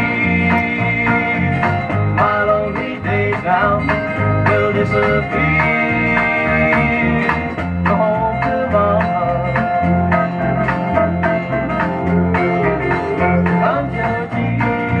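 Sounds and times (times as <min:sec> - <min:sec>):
country song on vinyl record: 0:00.0 - 0:15.0.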